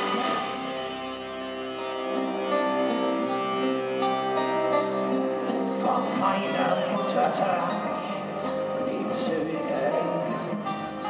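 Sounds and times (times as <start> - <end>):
live metal band playing: 0.0 - 11.0.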